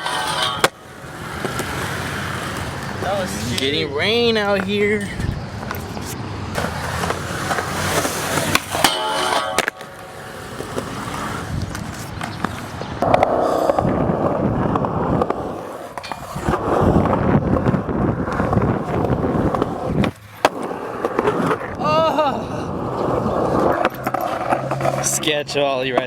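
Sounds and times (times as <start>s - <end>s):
skateboard clicks and knocks: 0.0s - 3.8s, 4.5s - 21.9s, 22.7s - 26.0s
skateboard wheels rolling on concrete: 0.0s - 26.0s.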